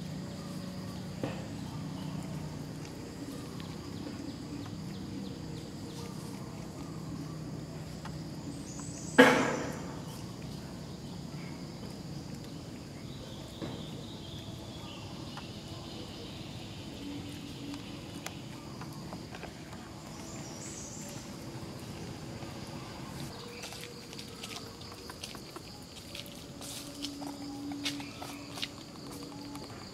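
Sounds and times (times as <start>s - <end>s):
faint insect drone: 0.0s - 29.9s.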